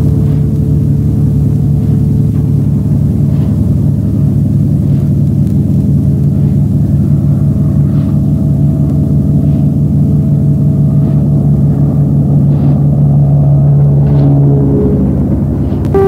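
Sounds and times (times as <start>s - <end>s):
locomotive engine droning: 0.0s - 16.0s.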